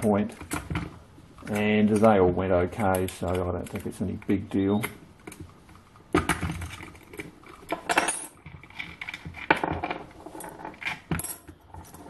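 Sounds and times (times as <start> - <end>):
handling noise: 0.0 - 12.0.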